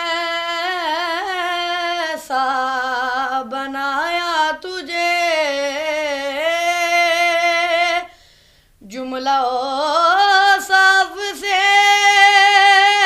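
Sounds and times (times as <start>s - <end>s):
boy singing unaccompanied: 0.0s - 8.1s, 8.8s - 13.0s.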